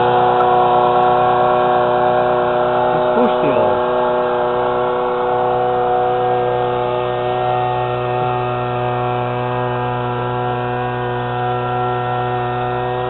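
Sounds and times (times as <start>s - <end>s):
small boat motor buzzing: 0.0s - 13.0s.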